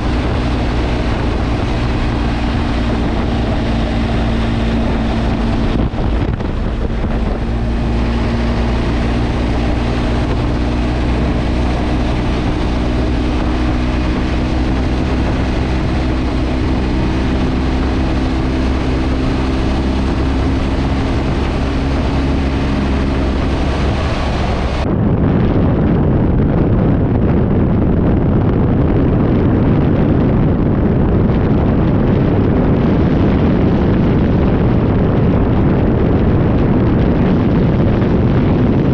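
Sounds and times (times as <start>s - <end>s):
motorcycle engine running: 0.0s - 25.0s, 26.4s - 38.9s
heavy wind rumble: 0.0s - 38.9s
wind noise on microphone: 0.0s - 38.9s.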